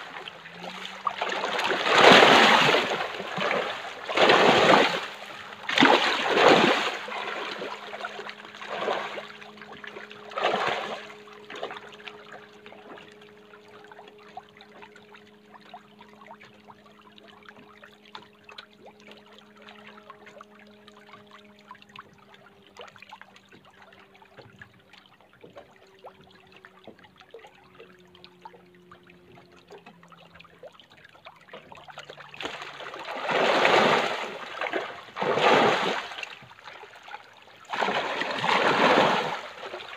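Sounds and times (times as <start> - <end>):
water splashing and sloshing: 0.0 - 39.9
water trickling: 0.0 - 39.9.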